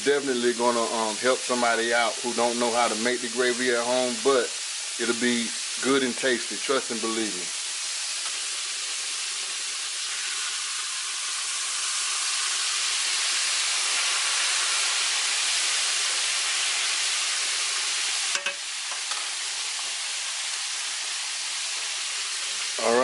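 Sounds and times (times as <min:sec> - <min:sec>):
pork chops sizzling in oil: 0:00.0 - 0:23.0.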